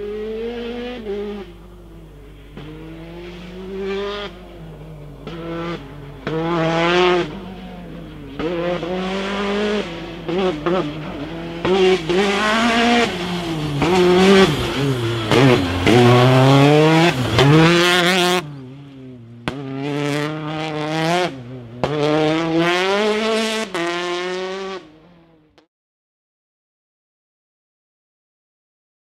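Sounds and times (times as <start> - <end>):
rally car engine revving: 0.0 - 25.7.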